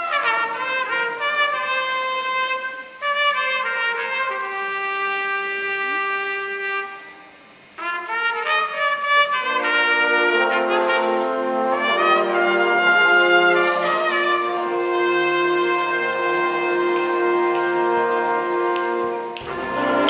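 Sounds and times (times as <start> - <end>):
big band horn section chords: 0.0 - 20.0.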